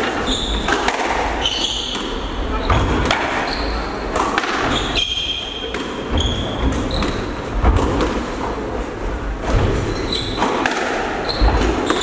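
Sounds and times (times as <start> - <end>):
shoes squeaking on floor: 0.0 - 7.6, 9.7 - 12.0.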